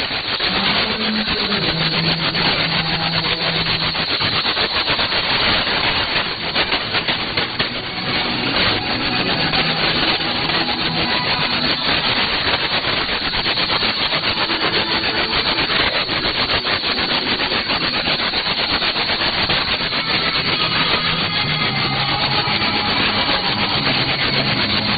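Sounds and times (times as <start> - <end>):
radio static with pulsing crackle: 0.0 - 24.9.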